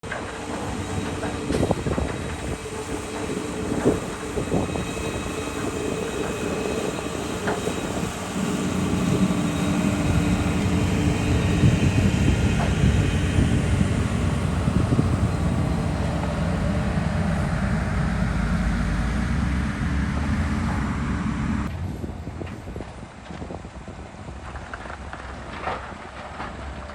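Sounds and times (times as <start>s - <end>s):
diesel engines running: 0.0s - 22.5s
low rumble: 0.2s - 23.0s.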